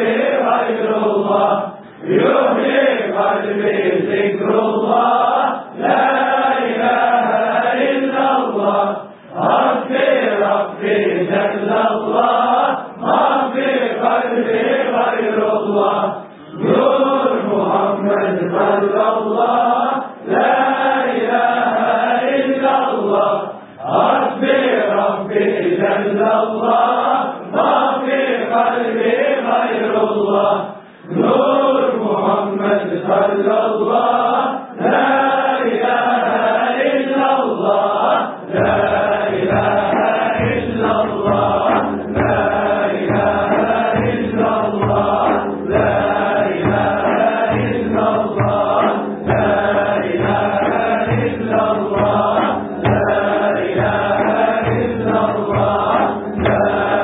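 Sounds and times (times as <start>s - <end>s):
men chanting in unison: 0.0s - 57.0s.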